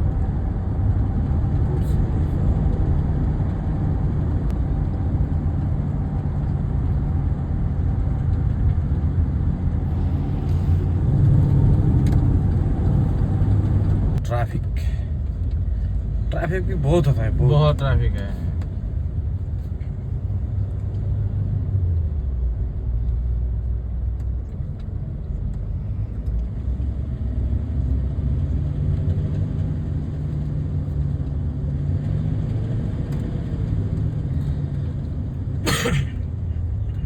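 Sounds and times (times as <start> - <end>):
car engine and road rumble: 0.0 - 37.0.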